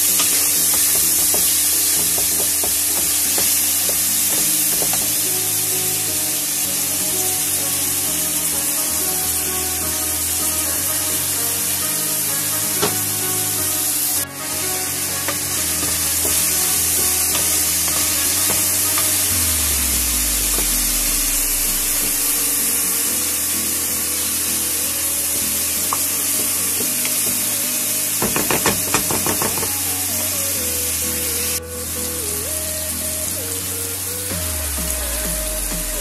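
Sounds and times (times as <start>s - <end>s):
chicken sizzling in oil: 0.0s - 35.9s.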